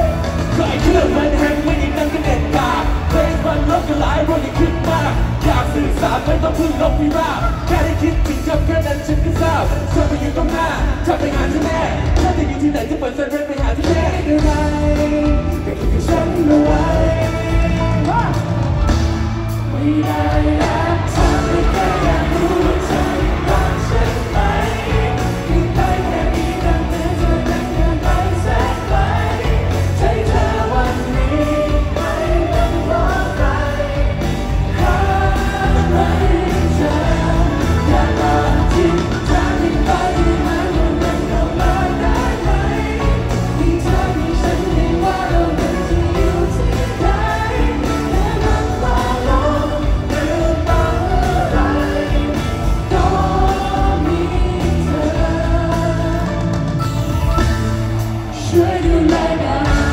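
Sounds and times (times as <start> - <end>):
live pop song over sound system: 0.0 - 59.9.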